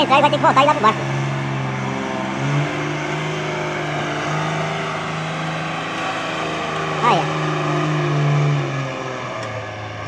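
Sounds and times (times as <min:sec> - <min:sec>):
truck engine droning: 0:00.0 - 0:10.0.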